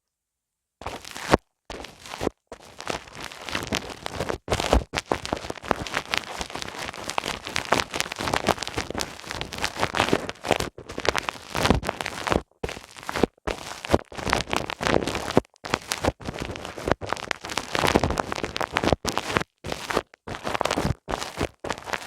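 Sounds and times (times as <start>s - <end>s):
hands rubbing on microphone: 0.8s - 22.0s.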